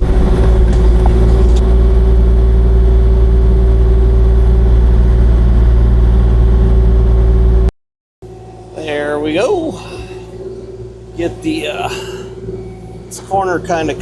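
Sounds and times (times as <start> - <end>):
engine whine: 0.0 - 14.0
excavator diesel engine running: 0.0 - 14.0.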